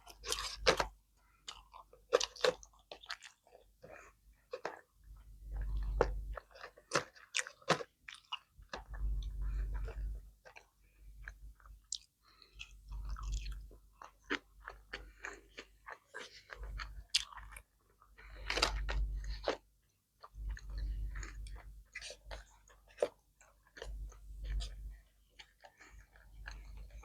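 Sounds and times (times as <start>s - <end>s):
close-up chewing: 0.0s - 27.0s.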